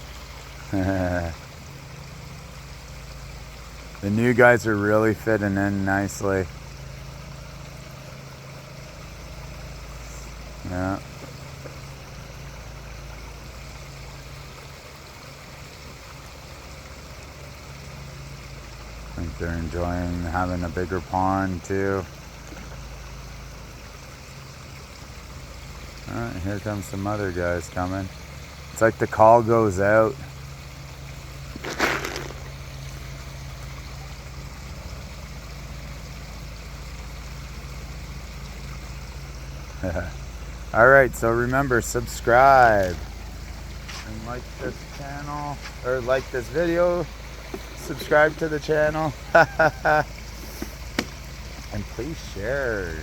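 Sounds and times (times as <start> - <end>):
low steady hum: 0.0 - 53.0
waterfall splashing into pond: 0.0 - 53.0.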